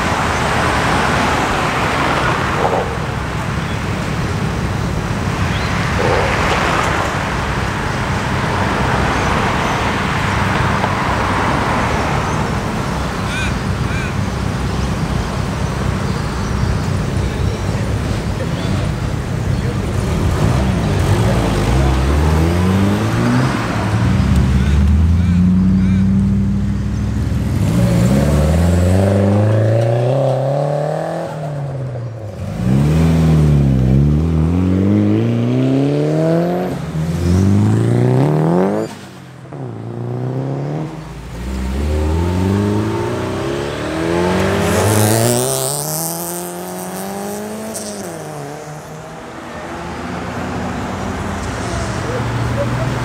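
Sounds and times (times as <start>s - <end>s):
cars accelerating hard: 0.0s - 13.3s, 14.4s - 53.0s.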